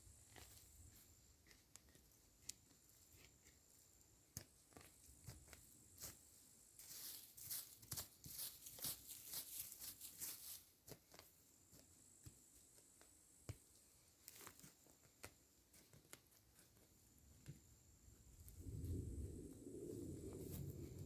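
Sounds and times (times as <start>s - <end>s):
faint crackling and rustling: 0.0s - 21.0s.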